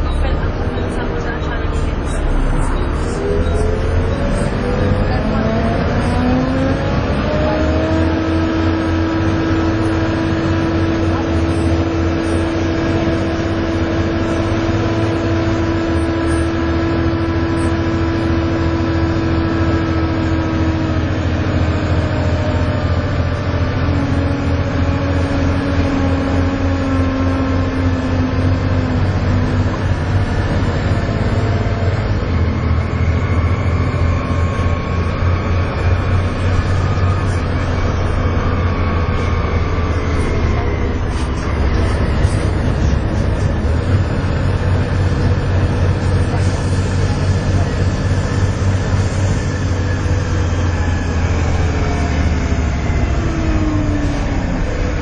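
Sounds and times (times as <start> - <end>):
bus diesel engine rumble: 0.0 - 55.0
high engine whine: 0.0 - 55.0.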